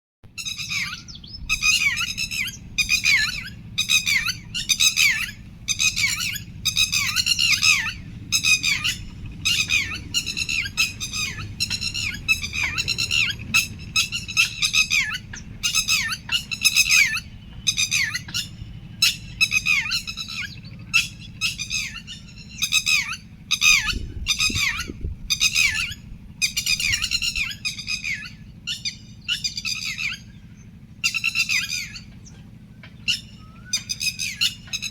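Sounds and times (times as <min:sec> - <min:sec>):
bird harsh downward calls: 0:00.3 - 0:34.9
low steady hum: 0:00.3 - 0:34.9.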